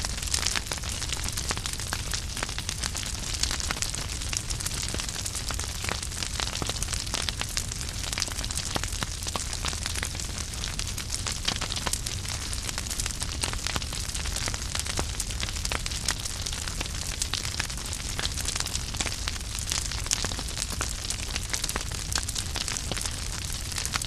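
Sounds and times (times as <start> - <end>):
logs crackling and popping: 0.0 - 24.0.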